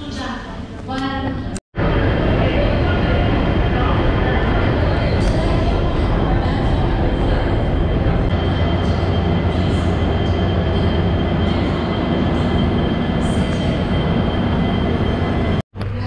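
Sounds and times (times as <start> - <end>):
train rumbling: 0.7 - 16.0
thin high whine: 1.8 - 15.6.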